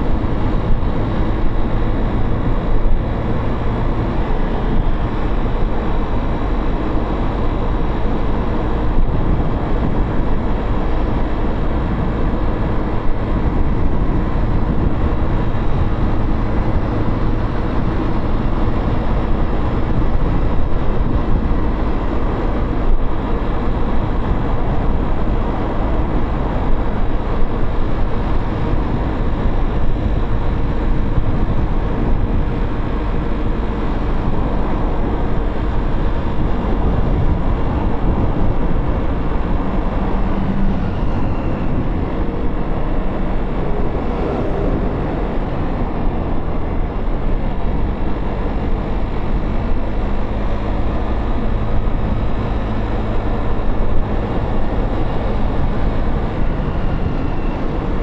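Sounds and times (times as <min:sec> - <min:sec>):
road and traffic noise: 0:00.0 - 0:58.0
wind rushing on microphone: 0:00.0 - 0:58.0.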